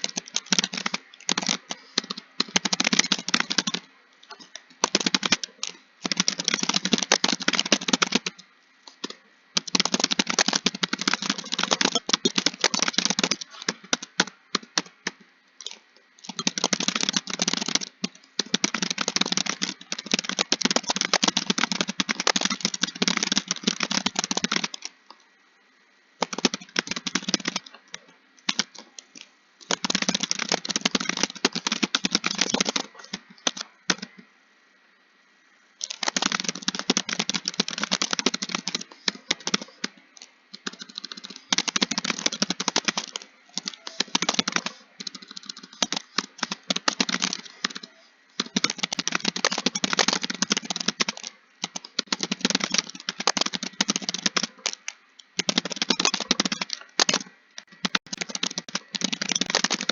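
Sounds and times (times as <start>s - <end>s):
computer keyboard typing: 0.0s - 25.2s, 26.2s - 34.2s, 35.8s - 59.9s.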